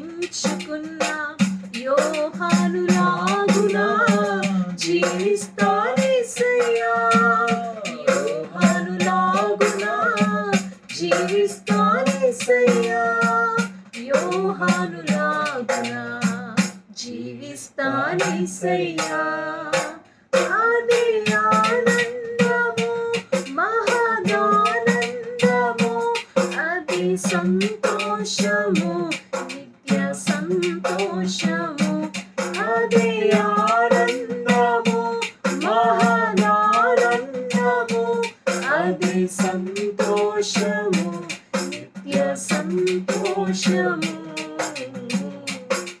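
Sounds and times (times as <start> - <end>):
woman singing worship song: 0.0 - 45.9.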